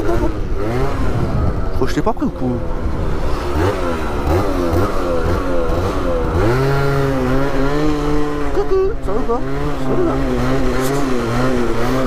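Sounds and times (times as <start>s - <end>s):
scooter engine revving: 0.0s - 12.0s.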